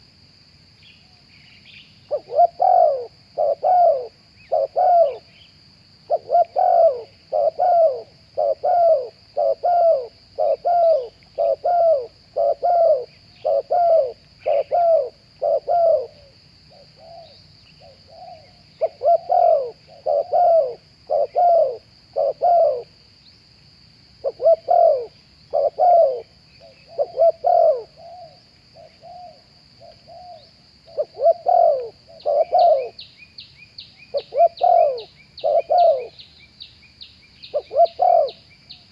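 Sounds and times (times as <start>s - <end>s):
high-pitched insect drone: 0.0s - 38.9s
doves cooing: 2.1s - 5.3s, 6.1s - 23.0s, 24.2s - 33.0s, 34.1s - 36.2s, 37.5s - 38.4s.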